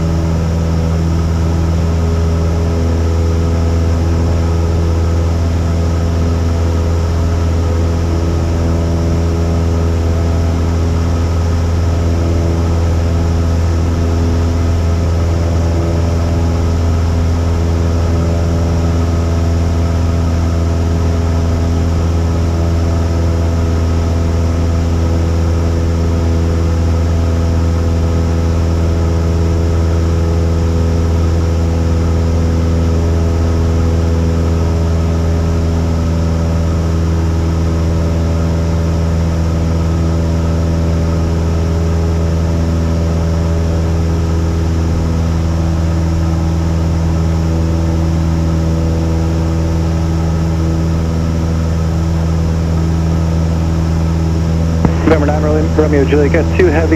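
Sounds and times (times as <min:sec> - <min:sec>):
propeller plane engine droning: 0:00.0 - 0:56.9.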